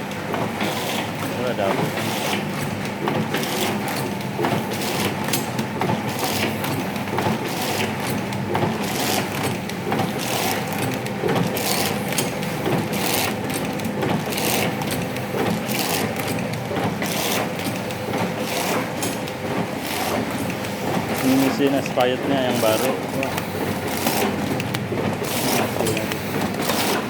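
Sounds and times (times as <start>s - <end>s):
machine motor hum: 0.0s - 27.0s
machine clattering strokes: 0.6s - 27.0s.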